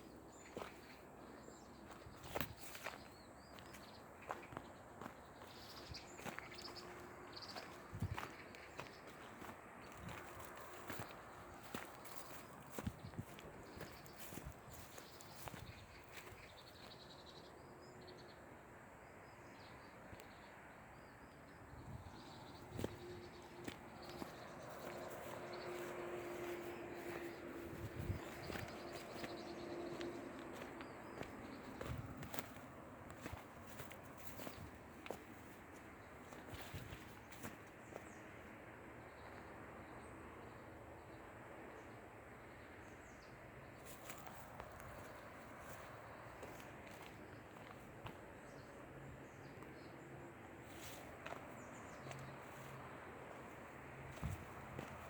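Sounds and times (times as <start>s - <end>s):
footsteps on path: 0.0s - 17.1s, 21.8s - 38.4s, 43.8s - 49.9s, 50.6s - 55.0s
faint forest ambience: 0.0s - 55.0s.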